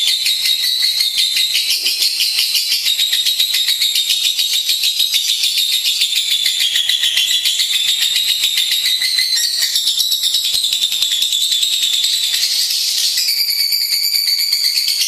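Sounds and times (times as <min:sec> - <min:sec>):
lovebird chattering trill: 0:00.0 - 0:15.0.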